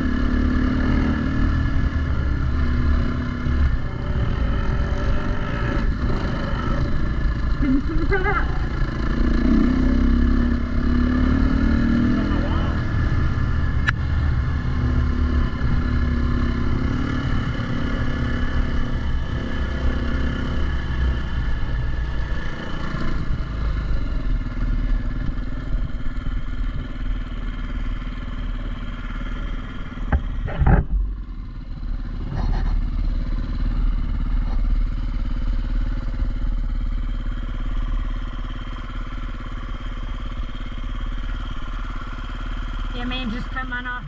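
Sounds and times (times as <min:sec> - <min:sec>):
dirt bike engine running: 0:00.0 - 0:44.0.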